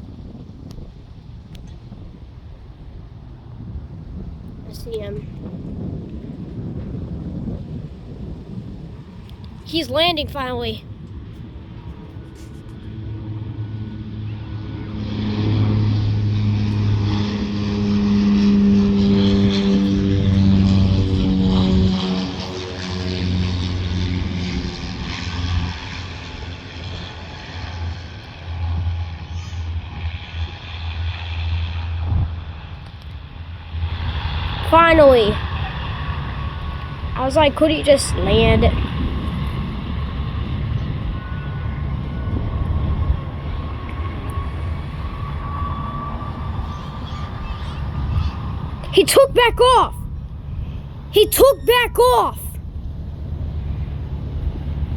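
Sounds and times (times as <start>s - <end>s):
airplane engines rumbling and whining: 0.0s - 54.9s
propeller plane drone: 0.0s - 54.9s.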